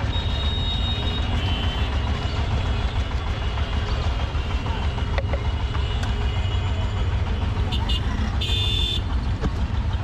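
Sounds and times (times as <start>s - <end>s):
low traffic rumble: 0.0s - 10.0s.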